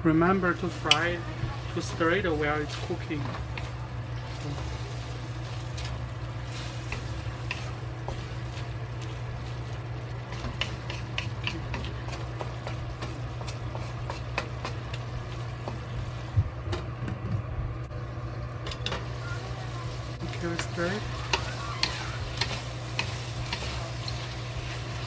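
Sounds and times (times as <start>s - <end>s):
steady low hum: 0.0s - 25.0s
food popping in a pan: 0.7s - 17.4s, 20.1s - 25.0s.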